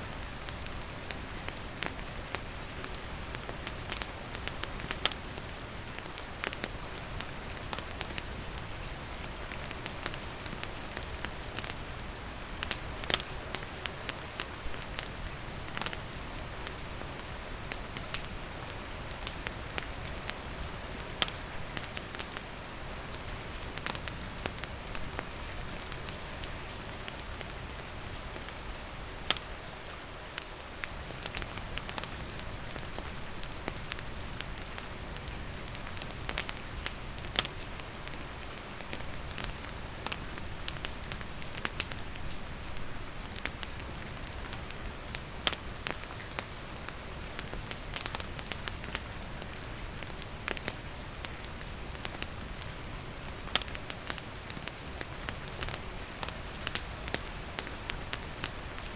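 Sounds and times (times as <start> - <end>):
rain falling on wooden roof: 0.0 - 58.9
campfire crackling and popping: 0.2 - 58.9.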